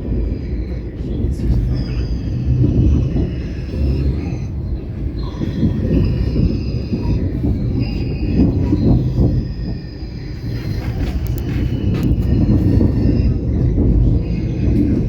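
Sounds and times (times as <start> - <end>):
high wheel squeals: 0.0 - 15.0
train wheels rumbling on rails: 0.0 - 15.0.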